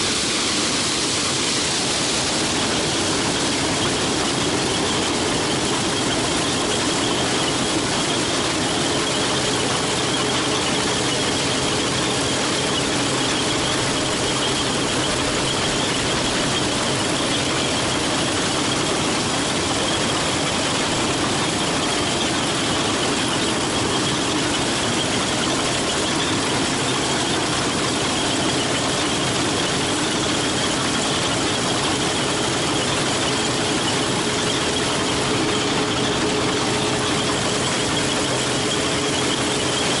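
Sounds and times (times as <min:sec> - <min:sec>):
combine harvester running: 0:00.0 - 0:40.0
high mechanical whine: 0:00.0 - 0:40.0.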